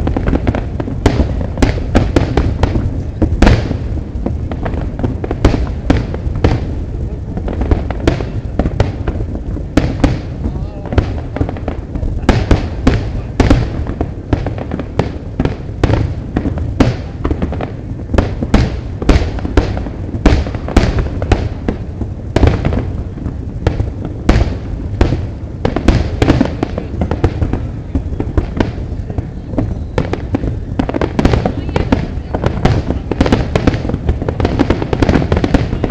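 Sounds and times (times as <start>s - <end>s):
fireworks exploding: 0.0s - 35.9s
low rumble: 0.0s - 35.9s.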